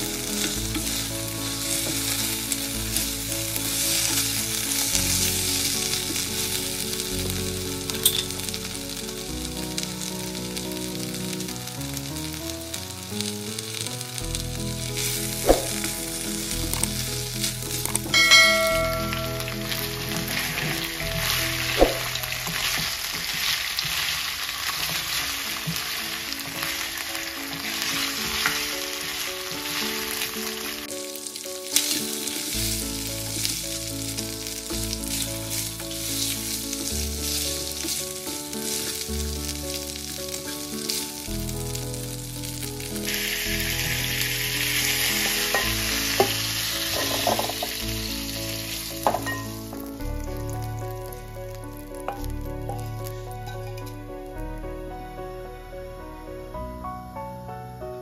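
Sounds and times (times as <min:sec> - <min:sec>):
chicken sizzling in oil: 0:00.0 - 0:54.4
background music with held notes: 0:00.0 - 0:58.0.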